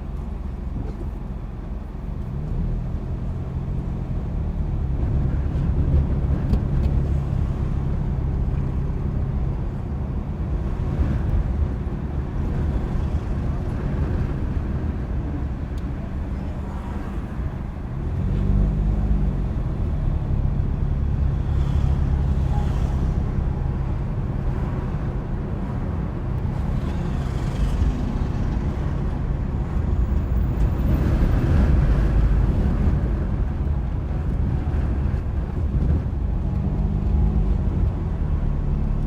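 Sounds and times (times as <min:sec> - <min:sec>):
car engine: 0:00.0 - 0:39.0
road noise: 0:00.0 - 0:39.0.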